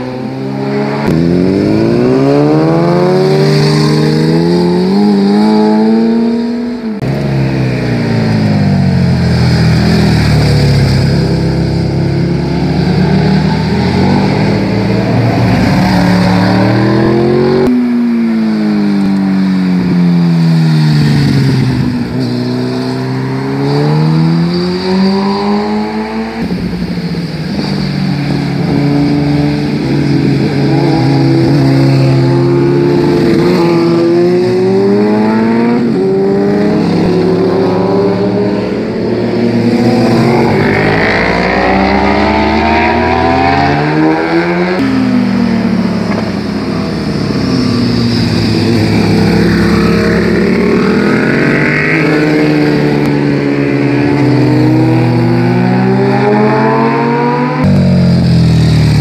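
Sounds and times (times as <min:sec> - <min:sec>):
motorcycles passing and accelerating: 0:00.0 - 0:59.0.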